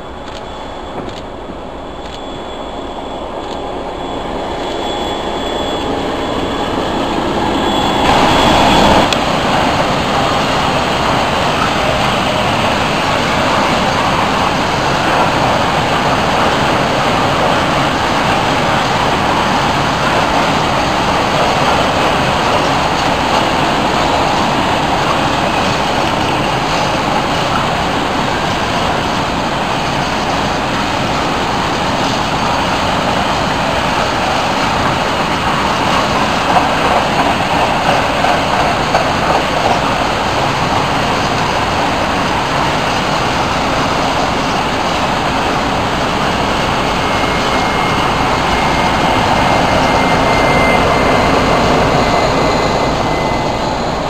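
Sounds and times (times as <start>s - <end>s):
freight wagons rumbling on rails: 0.0s - 54.0s.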